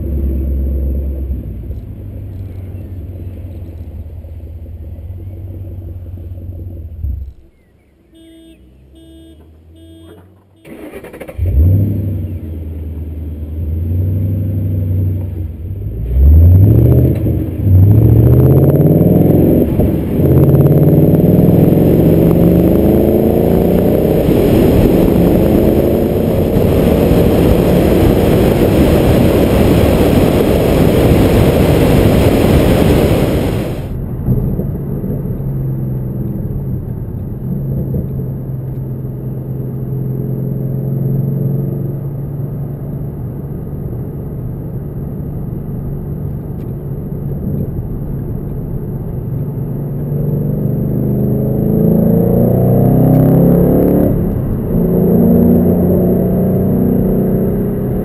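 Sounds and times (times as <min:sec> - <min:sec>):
car engine revving and accelerating: 0:10.6 - 0:58.0.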